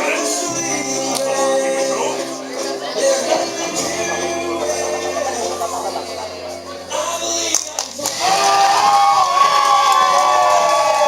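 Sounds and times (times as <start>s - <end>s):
crowd cheering and yelling: 0.0s - 11.0s.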